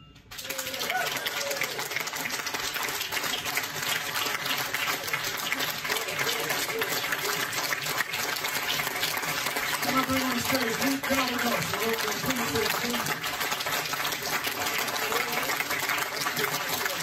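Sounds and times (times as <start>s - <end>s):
audience applause: 0.3s - 17.0s.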